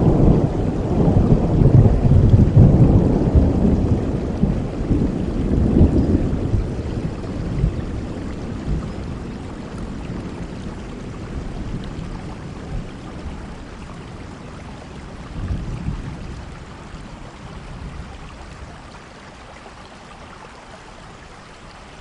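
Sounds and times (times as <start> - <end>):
low rumble of thunder: 0.0 - 19.0
steady rain: 0.0 - 22.0.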